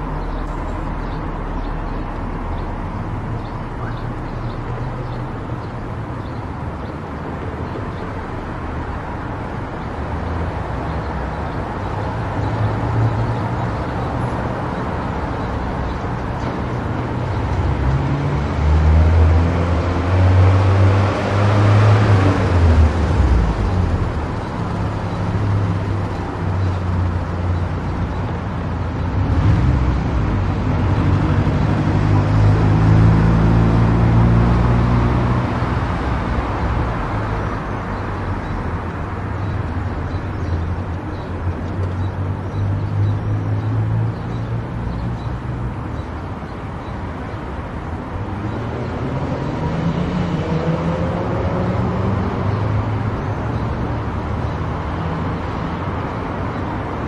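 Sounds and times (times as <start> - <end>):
road and engine rumble: 0.0 - 57.0.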